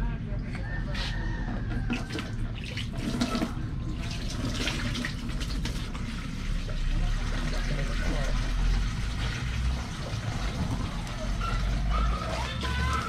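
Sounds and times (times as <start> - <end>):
hose water filling plastic bucket: 1.8 - 13.0.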